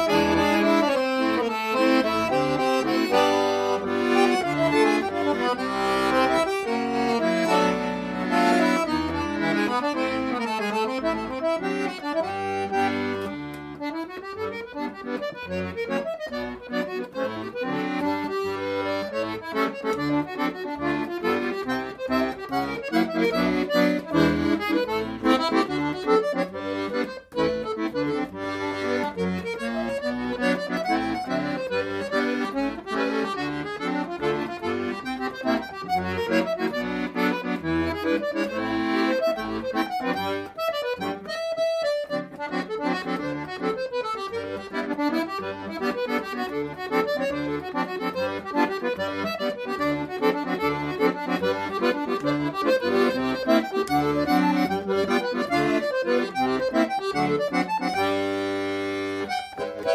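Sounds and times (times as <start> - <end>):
instrumental background music: 0.0 - 59.9.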